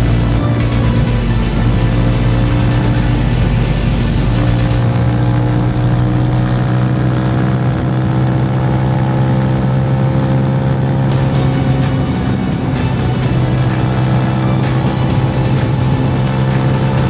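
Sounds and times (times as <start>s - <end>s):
motorcycle engine running: 0.0s - 9.0s, 11.1s - 17.0s.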